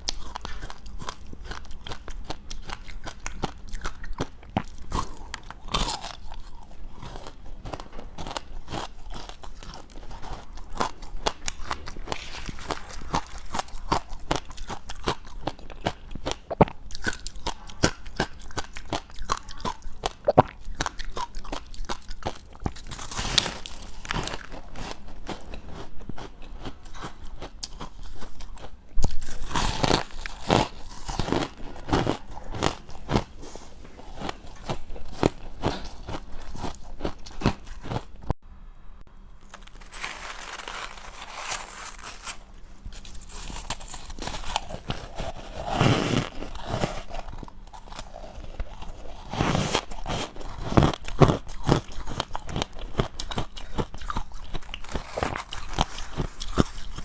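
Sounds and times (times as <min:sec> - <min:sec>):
chewing ice crunching: 0:00.0 - 0:33.3, 0:39.4 - 0:57.0.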